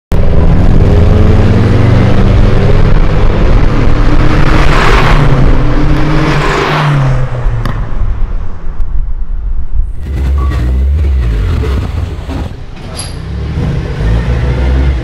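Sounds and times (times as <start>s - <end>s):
car engine accelerating: 0.1s - 7.7s, 9.9s - 15.0s.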